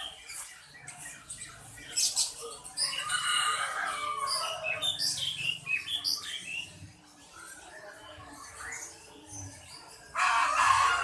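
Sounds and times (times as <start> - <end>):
many birds chirping: 0.0 - 11.0.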